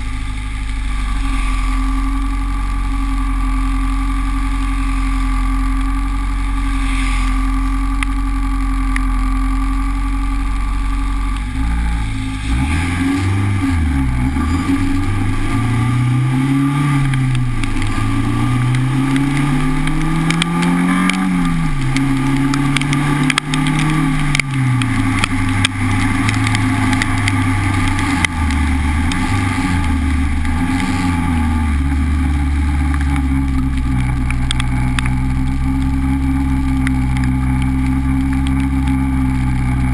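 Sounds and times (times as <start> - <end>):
car engine idling and accelerating: 0.0 - 39.9.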